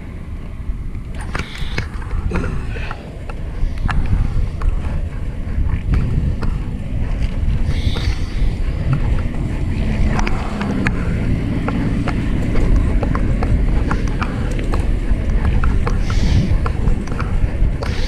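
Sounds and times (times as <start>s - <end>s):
wind and road rumble: 0.0s - 18.0s
bicycle clicks and rattles: 0.9s - 18.0s.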